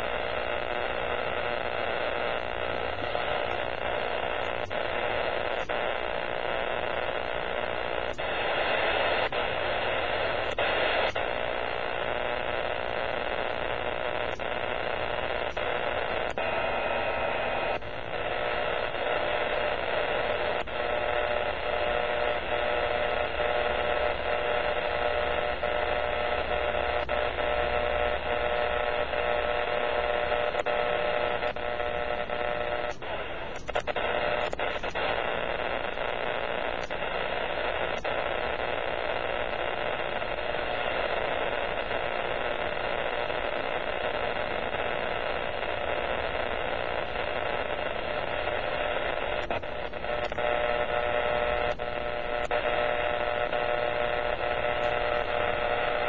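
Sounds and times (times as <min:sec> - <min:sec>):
rushing radio static: 0:00.0 - 0:56.0
sharp static clicks: 0:00.0 - 0:56.0.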